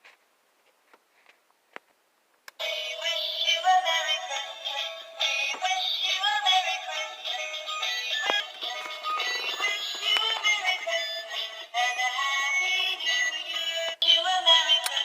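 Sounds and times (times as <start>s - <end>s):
music with singing: 2.6s - 15.0s.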